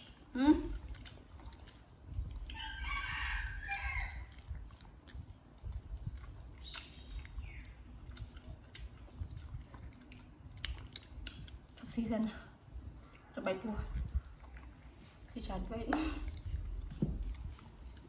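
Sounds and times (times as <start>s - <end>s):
chewing and mouth clicks: 0.0s - 18.0s.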